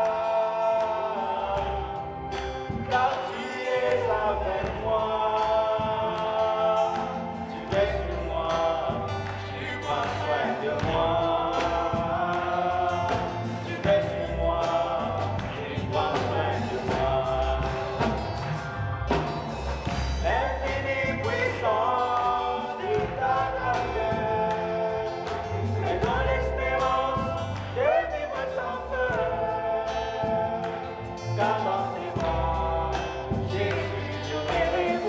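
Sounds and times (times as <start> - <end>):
band with bass and drums: 0.0 - 35.0
voices singing in harmony: 0.0 - 35.0.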